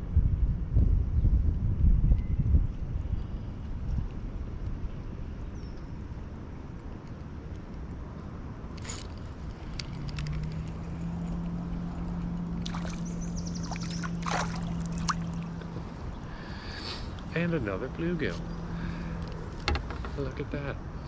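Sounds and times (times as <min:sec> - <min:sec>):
low hum: 0:00.0 - 0:21.0
wind buffeting microphone: 0:00.0 - 0:21.0.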